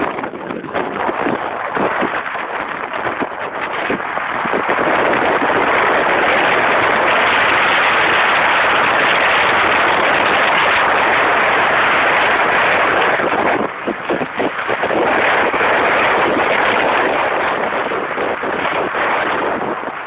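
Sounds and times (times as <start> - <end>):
motorboat engine at speed: 0.0 - 20.0
wind battering microphone: 0.0 - 20.0.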